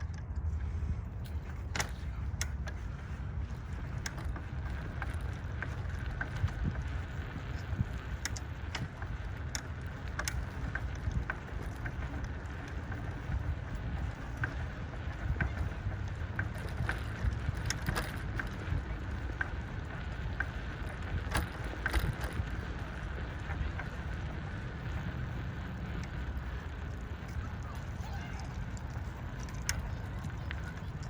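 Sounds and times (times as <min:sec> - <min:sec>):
bicycle clicks and rattles: 0:00.0 - 0:31.0
wind rumbling on microphone: 0:00.0 - 0:31.0.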